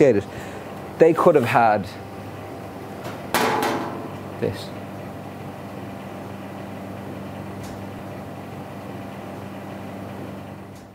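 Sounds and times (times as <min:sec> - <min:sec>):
kitchen equipment humming: 0:00.0 - 0:10.8.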